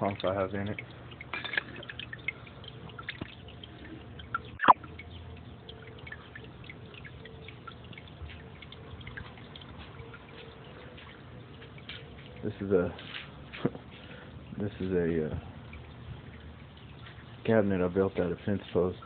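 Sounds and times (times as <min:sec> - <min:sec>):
water dripping and trickling: 0:00.0 - 0:19.0.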